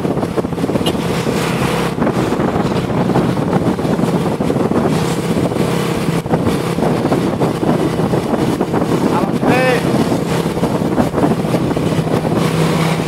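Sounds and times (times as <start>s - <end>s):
road noise: 0.0s - 13.0s
vehicle engine drone: 0.0s - 13.0s
wind buffeting microphone: 0.0s - 13.0s.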